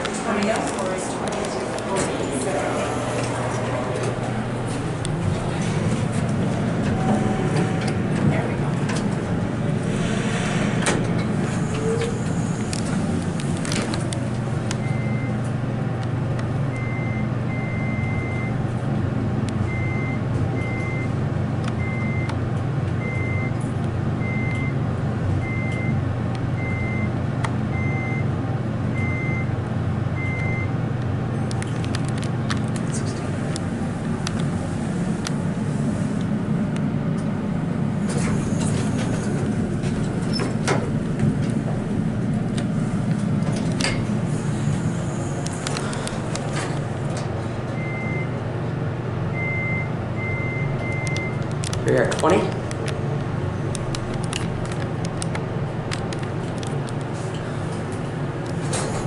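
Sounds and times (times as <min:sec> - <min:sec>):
elevator humming: 0:00.0 - 0:59.0.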